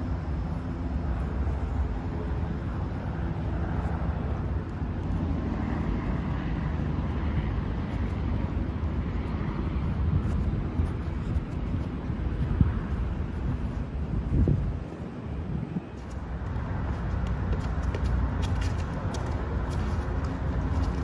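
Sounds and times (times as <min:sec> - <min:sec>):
city background rumble: 0:00.0 - 0:21.0.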